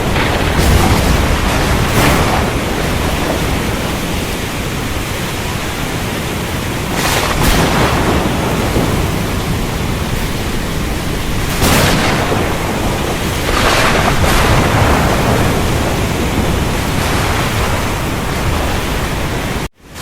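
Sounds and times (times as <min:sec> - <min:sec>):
low rumble of thunder: 0:00.0 - 0:19.7
heavy rain: 0:00.0 - 0:20.0.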